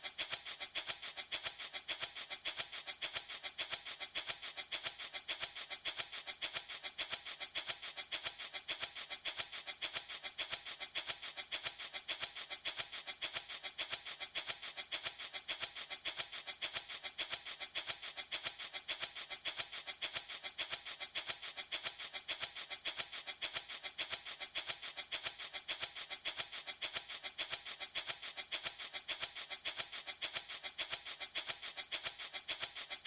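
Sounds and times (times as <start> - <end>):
wooden baby rattle shaken: 0.0 - 33.0.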